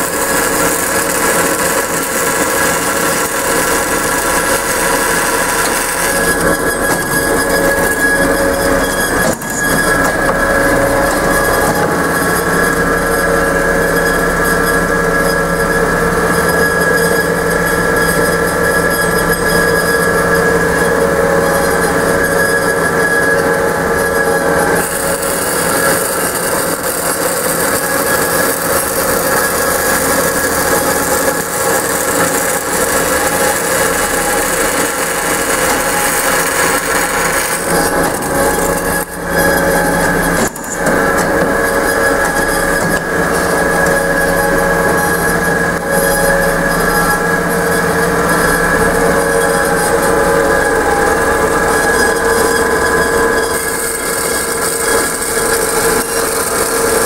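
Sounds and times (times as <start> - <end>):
band saw droning: 0.0 - 57.0.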